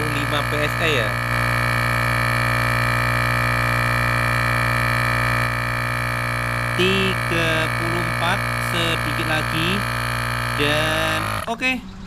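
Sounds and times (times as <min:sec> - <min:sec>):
electric tyre compressor humming: 0:00.0 - 0:12.0.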